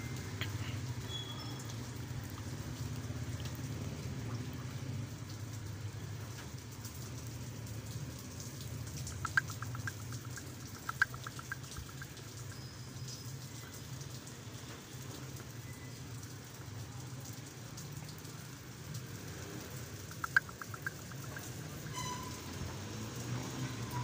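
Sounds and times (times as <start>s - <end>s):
steady rain on wet street: 0.0s - 24.0s.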